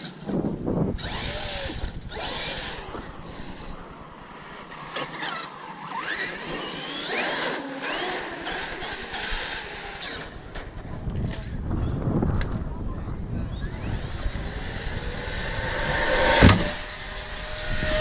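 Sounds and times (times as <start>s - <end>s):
electric motors whining: 1.0s - 12.6s, 13.2s - 18.0s.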